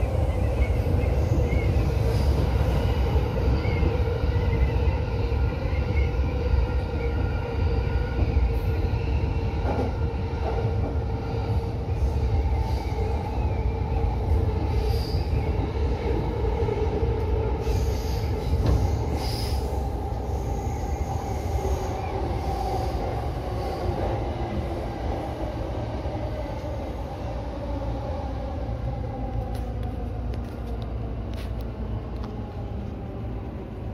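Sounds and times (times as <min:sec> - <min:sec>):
train wheels rumbling on track: 0:00.0 - 0:33.9.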